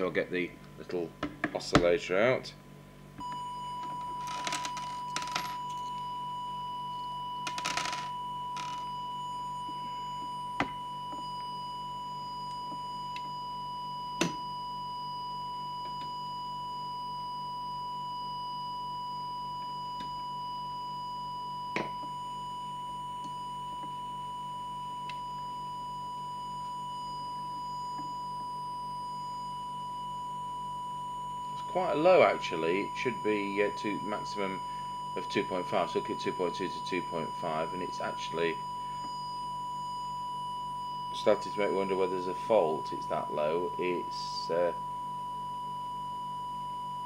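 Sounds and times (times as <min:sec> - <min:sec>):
steady test tone: 0:00.0 - 0:47.0.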